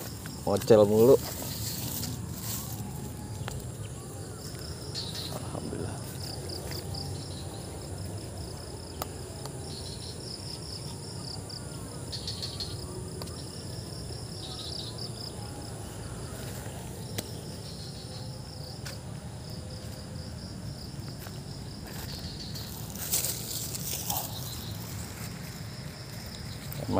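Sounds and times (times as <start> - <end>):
insects trilling: 0.0 - 26.9.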